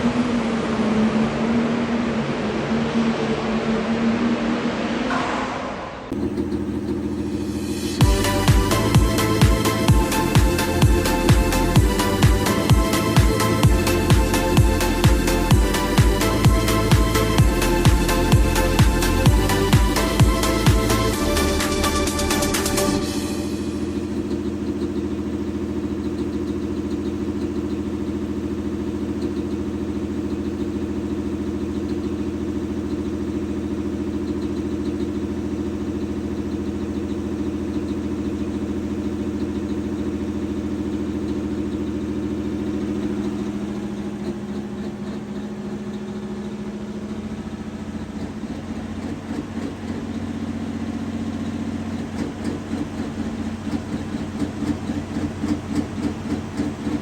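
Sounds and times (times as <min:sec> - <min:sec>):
large engine idling: 0:00.0 - 0:57.0.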